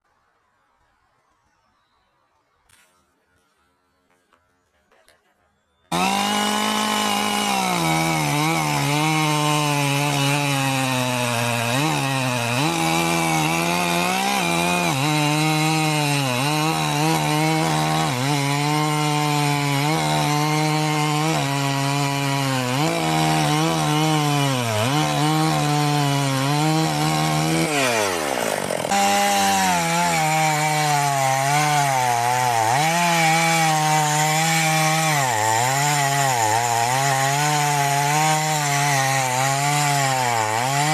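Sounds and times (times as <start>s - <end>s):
chainsaw cutting wood: 5.9s - 40.9s.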